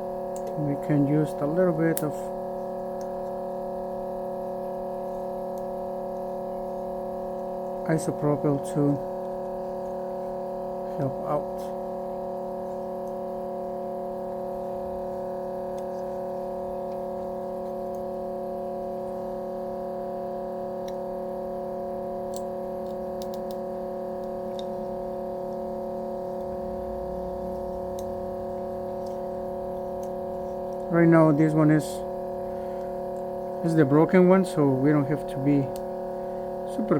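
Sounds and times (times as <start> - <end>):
steady multi-tone hum: 0.0 - 36.9.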